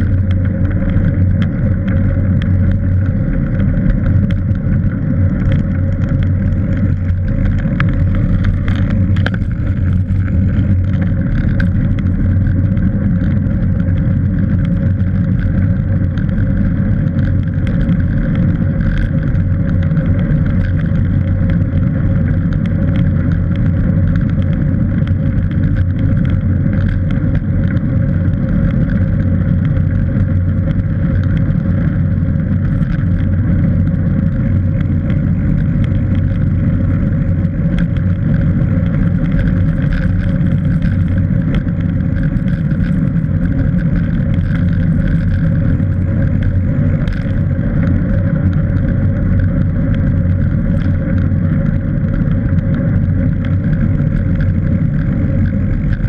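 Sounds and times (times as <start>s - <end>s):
faint ticks: 0.0s - 56.0s
road rumble: 0.0s - 56.0s.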